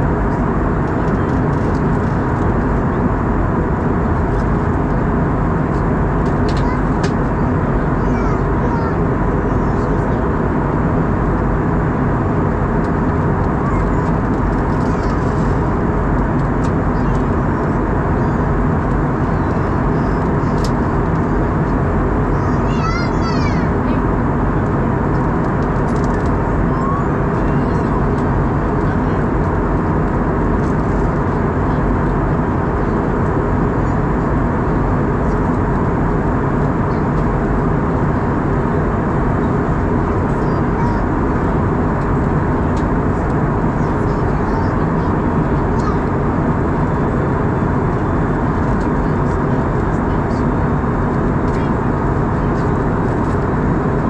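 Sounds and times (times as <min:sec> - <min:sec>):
aircraft cabin engine roar: 0:00.0 - 0:54.0.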